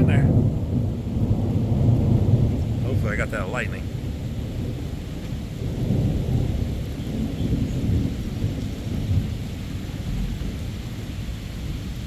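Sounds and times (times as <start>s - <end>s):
rain hissing: 0.0s - 12.0s
thunder rumbling: 0.0s - 12.0s.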